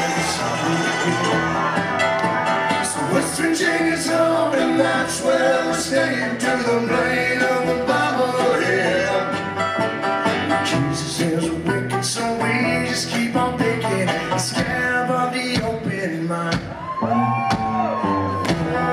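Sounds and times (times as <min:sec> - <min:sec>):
bending melody line: 0:00.0 - 0:15.5
banjo: 0:00.0 - 0:18.9
guitar: 0:00.0 - 0:18.9.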